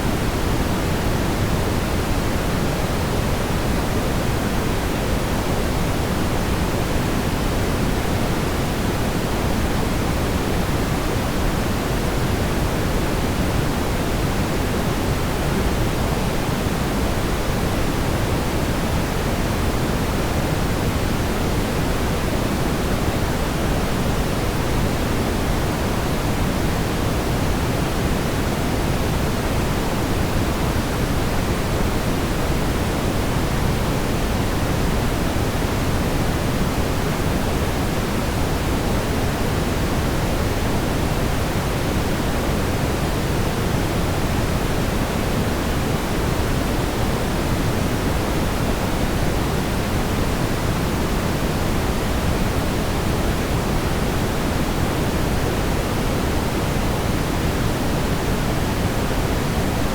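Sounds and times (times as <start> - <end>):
brown noise hiss: 0.0 - 59.9.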